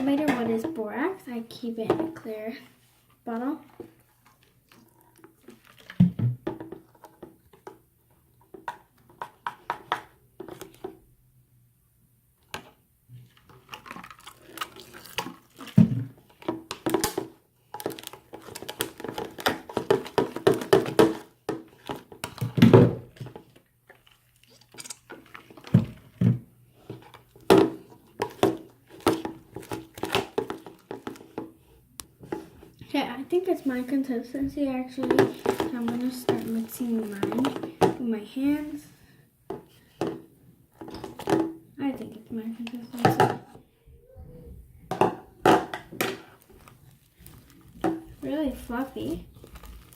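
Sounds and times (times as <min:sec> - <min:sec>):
slime mixing in a bowl: 0:00.0 - 0:11.2, 0:12.3 - 0:49.9.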